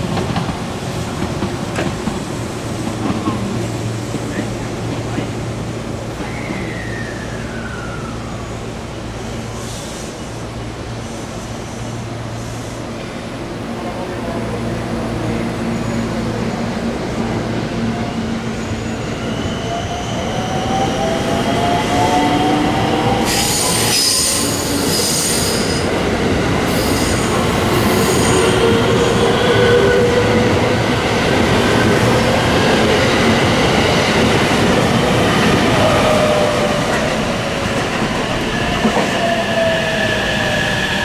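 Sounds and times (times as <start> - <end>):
falling whine of arriving train: 0.0 - 41.0.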